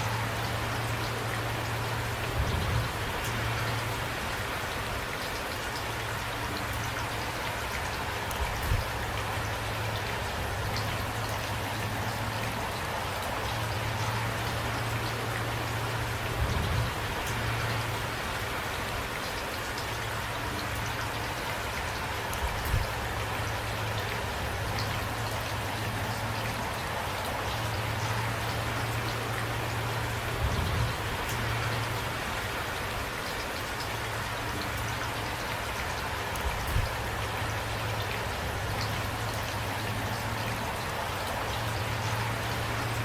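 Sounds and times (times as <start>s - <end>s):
rain falling: 0.0s - 43.0s.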